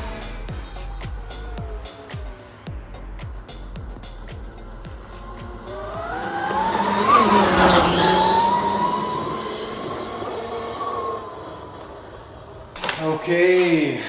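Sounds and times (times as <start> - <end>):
electric motorcycle motor whining: 0.0 - 12.8.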